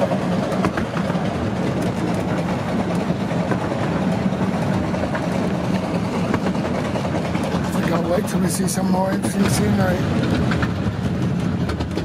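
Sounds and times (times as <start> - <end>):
train rumble: 0.0 - 12.0
wheels clicking over rails: 0.0 - 12.0.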